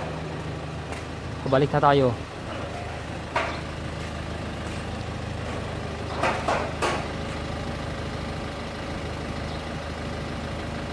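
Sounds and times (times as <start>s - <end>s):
vehicle engine idling: 0.0s - 10.9s.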